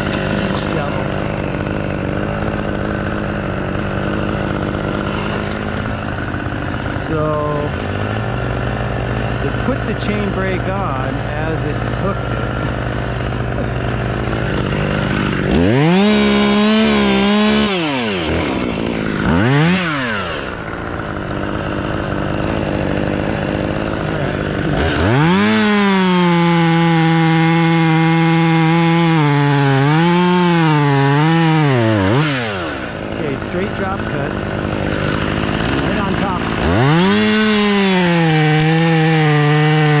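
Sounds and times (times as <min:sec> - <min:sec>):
chainsaw cutting wood: 0:00.0 - 0:40.0
chainsaw idling and revving: 0:00.0 - 0:40.0.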